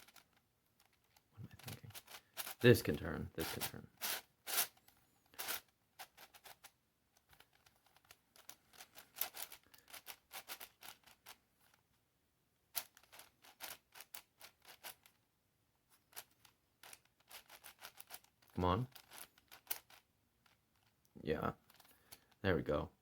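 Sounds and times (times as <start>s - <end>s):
puzzle layers clicking and clacking: 0.0s - 11.8s, 12.8s - 15.2s, 16.0s - 22.4s.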